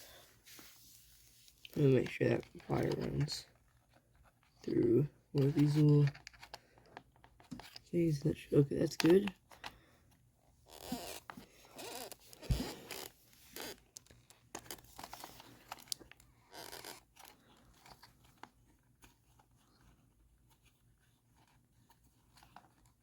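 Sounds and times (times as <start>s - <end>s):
plastic parts scraping and rustling: 0.0s - 23.0s.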